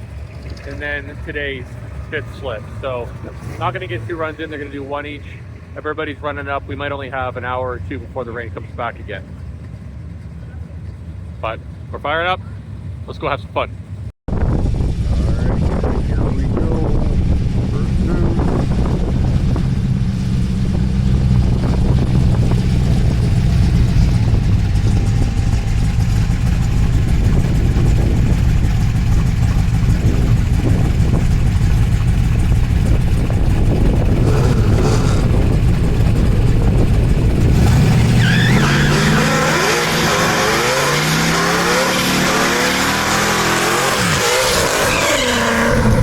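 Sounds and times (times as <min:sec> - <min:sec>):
car engine at low revs: 0:00.0 - 0:46.0
car accelerating hard: 0:00.4 - 0:07.8, 0:14.5 - 0:46.0.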